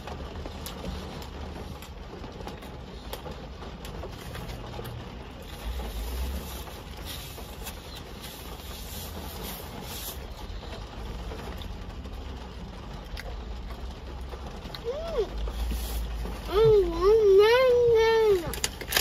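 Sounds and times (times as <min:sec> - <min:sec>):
rumble and hiss inside car: 0:00.0 - 0:19.0.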